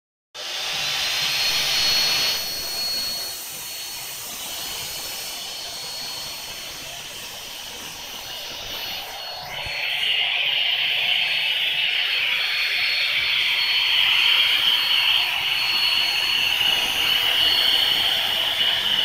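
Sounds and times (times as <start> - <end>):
electric blower whining: 0.4 - 19.0.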